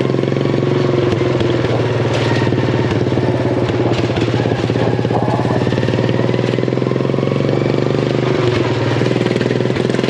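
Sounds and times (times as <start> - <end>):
small mower engine running: 0.0 - 10.0.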